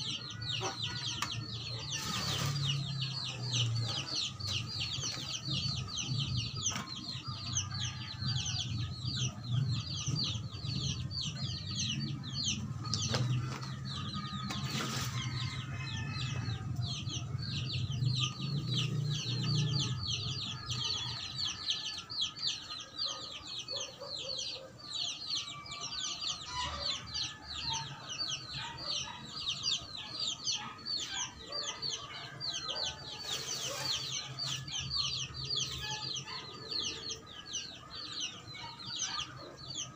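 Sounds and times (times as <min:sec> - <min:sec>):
chickens cheeping and clucking: 0:00.0 - 0:39.9.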